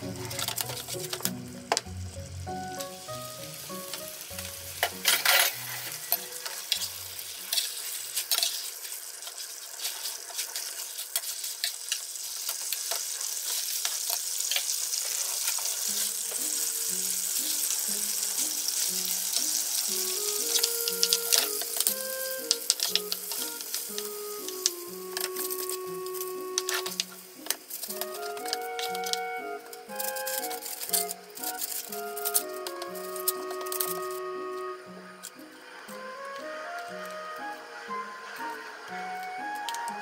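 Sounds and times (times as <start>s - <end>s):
sauce sizzling in a frying pan: 0.0s - 36.6s.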